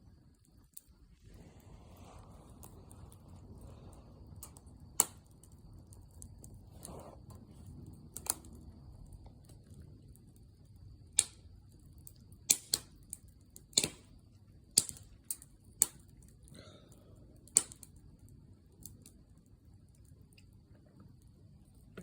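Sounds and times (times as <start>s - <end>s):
low rumble of burning: 0.0s - 22.0s
wood fire crackling pops: 0.2s - 19.4s.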